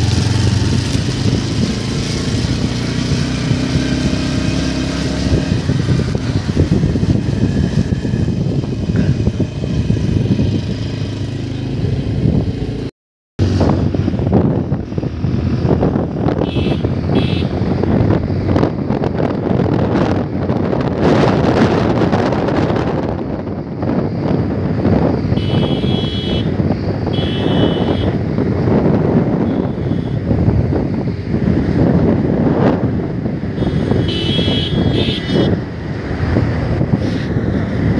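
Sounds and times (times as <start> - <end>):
motorcycle engine running: 0.0 - 37.9
wind buffeting microphone: 0.0 - 37.9.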